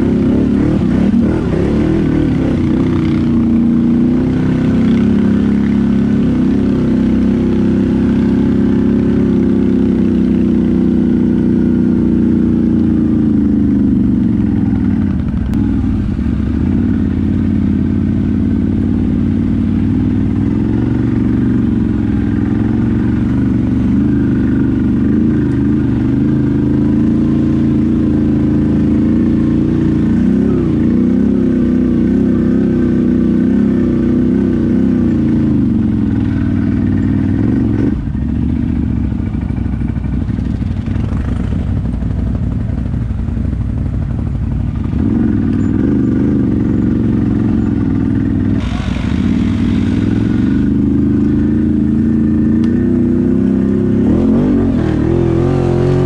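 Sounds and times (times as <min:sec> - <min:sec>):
quad bike engine revving: 0:00.0 - 0:43.0, 0:44.7 - 0:56.0.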